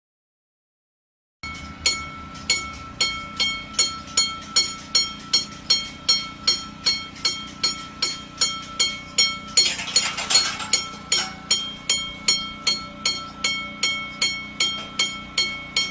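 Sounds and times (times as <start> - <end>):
bell ringing: 1.4 - 15.9
low hum: 1.5 - 15.9.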